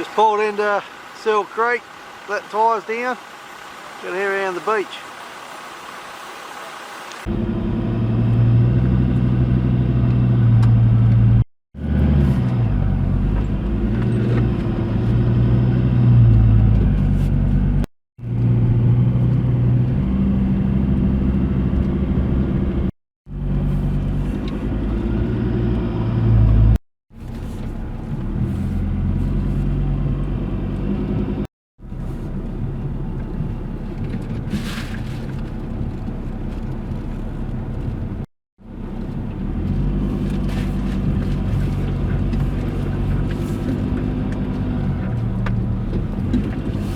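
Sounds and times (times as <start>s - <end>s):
vehicle engine running while driving: 0.0s - 46.9s.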